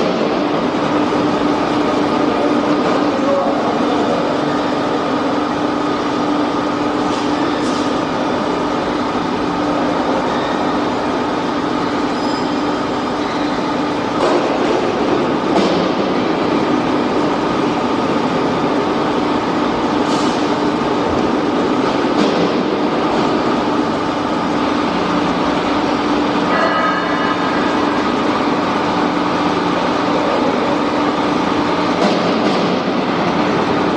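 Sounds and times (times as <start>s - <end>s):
factory machinery hum: 0.0s - 33.9s.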